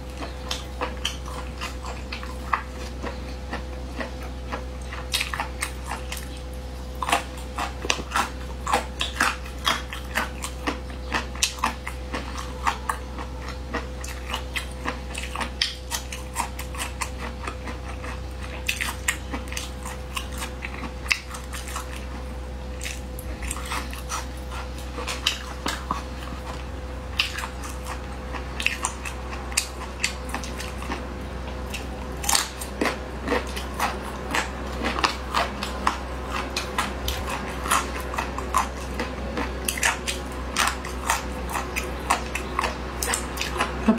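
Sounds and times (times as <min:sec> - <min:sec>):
low hum: 0:00.0 - 0:43.9
wet crunching and chewing: 0:00.0 - 0:43.9
teeth clicking on cartilage: 0:00.1 - 0:06.4, 0:07.0 - 0:22.2, 0:22.8 - 0:31.0, 0:31.7 - 0:43.9.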